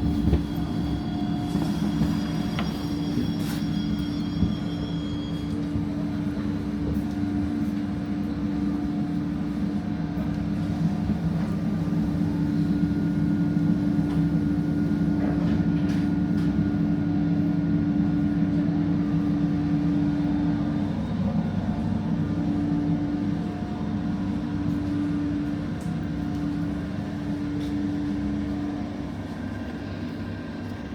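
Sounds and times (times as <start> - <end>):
electric train drive hum: 0.0 - 30.9.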